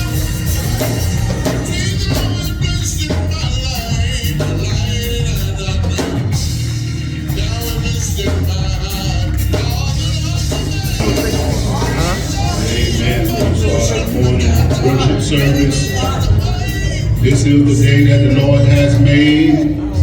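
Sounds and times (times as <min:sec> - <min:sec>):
church band playing: 0:00.0 - 0:20.0
voices singing: 0:00.0 - 0:20.0.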